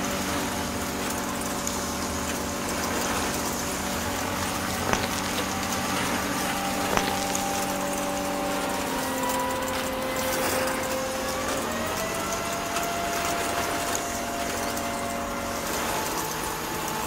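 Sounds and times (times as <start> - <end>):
small electric motor whining: 2.8 - 17.0.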